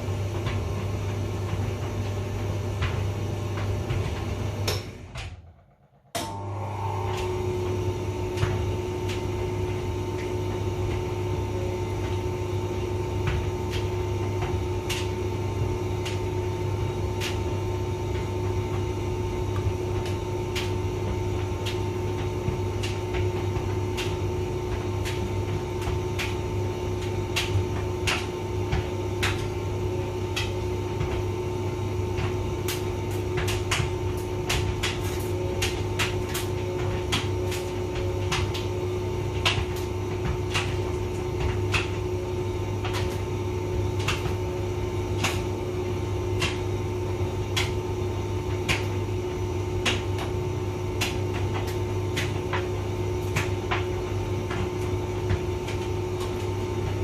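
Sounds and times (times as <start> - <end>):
tumble dryer motor hum: 0.0 - 57.0.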